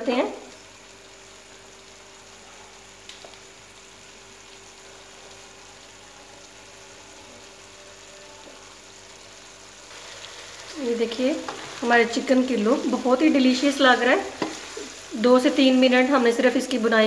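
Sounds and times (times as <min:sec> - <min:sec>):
chicken sizzling in butter: 0:00.0 - 0:17.0.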